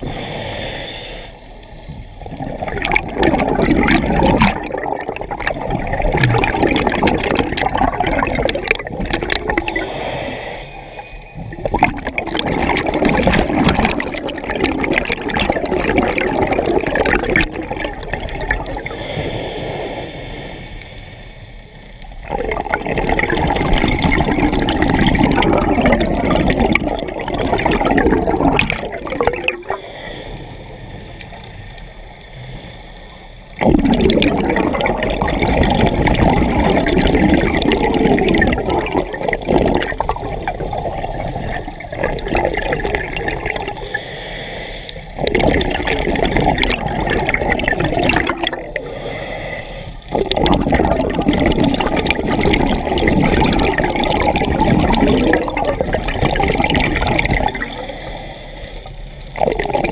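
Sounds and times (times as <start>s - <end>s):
exhaled air bubbling underwater: 0.0s - 59.9s.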